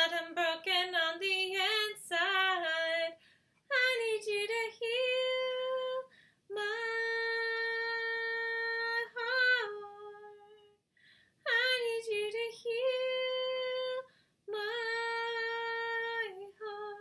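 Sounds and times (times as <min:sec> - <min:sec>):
woman singing unaccompanied: 0:00.0 - 0:10.8, 0:11.5 - 0:17.0.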